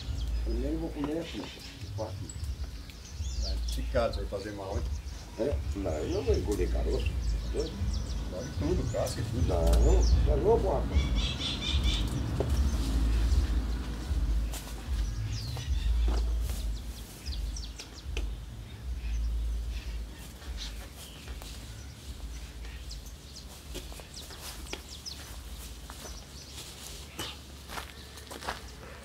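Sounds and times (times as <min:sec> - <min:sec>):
low rumbling background: 0:00.0 - 0:26.6
footsteps on dry leaves: 0:00.0 - 0:29.0
small birds chirping: 0:00.0 - 0:29.0.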